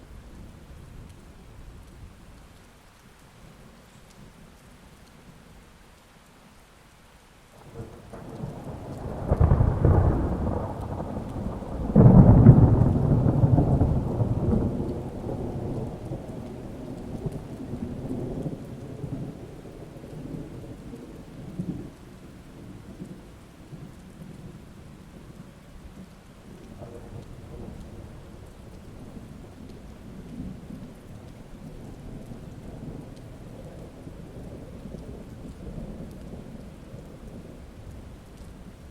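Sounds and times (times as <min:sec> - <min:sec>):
steady rain: 0:00.0 - 0:38.9
thunder rumbling: 0:07.6 - 0:38.9.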